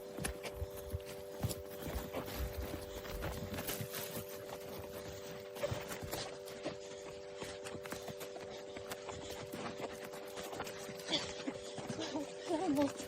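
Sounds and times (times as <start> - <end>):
footsteps on hard surface: 0.0 - 12.2
steady hum: 0.0 - 13.0.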